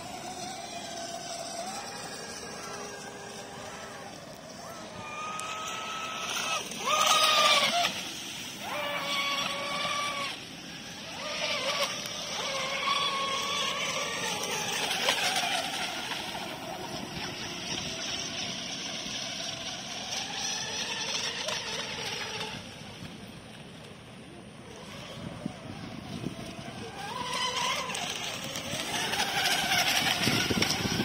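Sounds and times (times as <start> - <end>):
high-pitched boat motor whine: 0.0 - 31.0
hiss of wind and water: 0.0 - 31.0.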